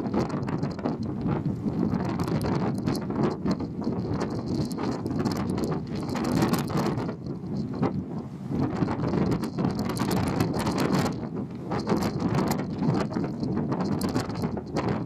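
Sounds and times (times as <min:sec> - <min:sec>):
wind gusting against microphone: 0:00.0 - 0:15.0.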